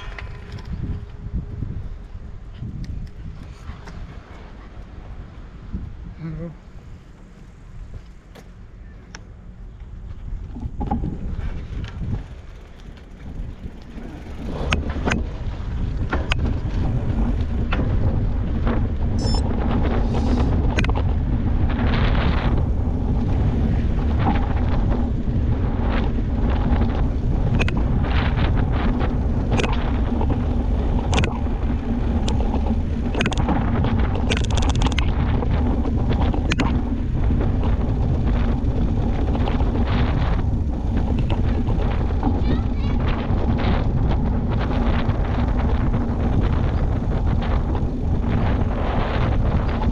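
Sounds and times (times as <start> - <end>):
bike clicks and rattles: 0.0 - 5.9, 6.7 - 49.9
wind rumble on microphone: 0.0 - 49.9.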